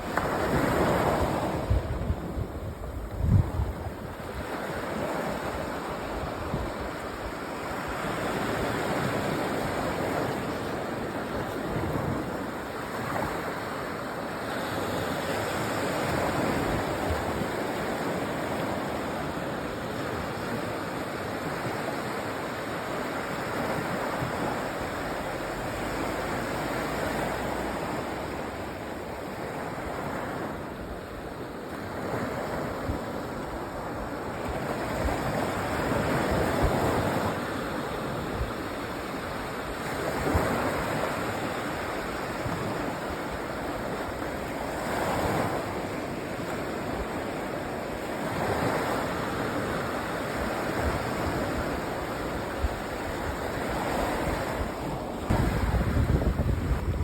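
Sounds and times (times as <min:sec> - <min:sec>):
waves washing onto sandy beach: 0:00.0 - 0:57.0
wind noise on microphone: 0:00.0 - 0:57.0.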